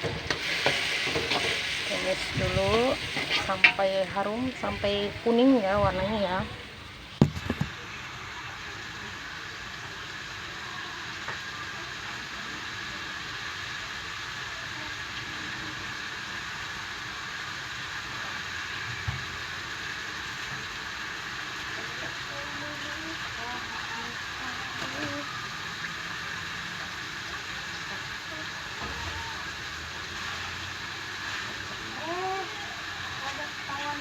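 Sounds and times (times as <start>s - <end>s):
fish frying in hot oil: 0.0s - 34.0s.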